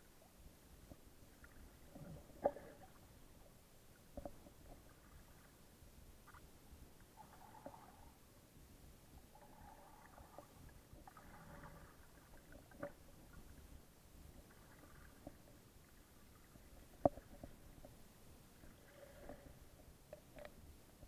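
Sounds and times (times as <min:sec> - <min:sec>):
underwater rumble of moving water: 0:00.0 - 0:21.0
small underwater clicks and knocks: 0:00.8 - 0:05.5, 0:06.2 - 0:08.1, 0:09.2 - 0:21.0.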